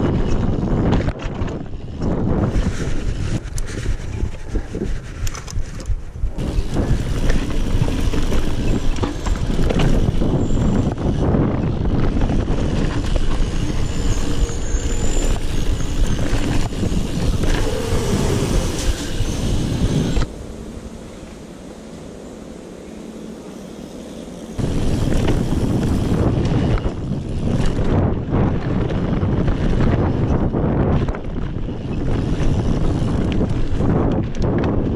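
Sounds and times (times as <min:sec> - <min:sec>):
bike rattling over bumps: 0:00.0 - 0:23.2, 0:23.9 - 0:34.9
bike tyres on loose dirt: 0:00.0 - 0:34.9.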